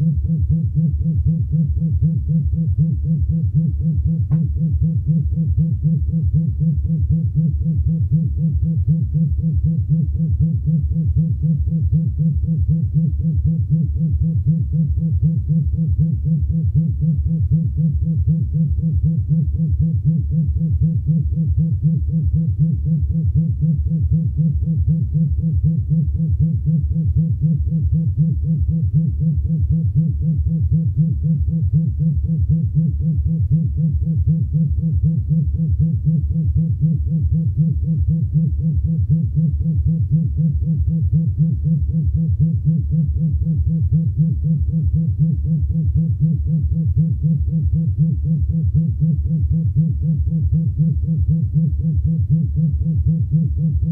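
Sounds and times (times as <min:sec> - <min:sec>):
pulsing vibration buzz: 0:00.0 - 0:53.9.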